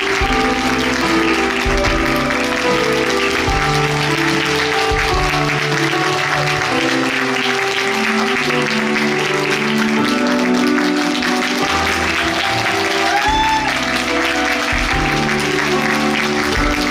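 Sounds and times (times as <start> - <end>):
audience applauding: 0.0 - 16.9
stage musical melody with moving bass: 0.0 - 16.9.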